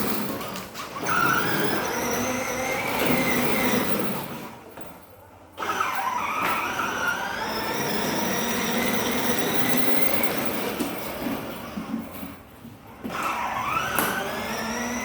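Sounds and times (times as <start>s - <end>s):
toy motorbike whirring and rattling: 0.0s - 4.6s, 5.6s - 15.0s.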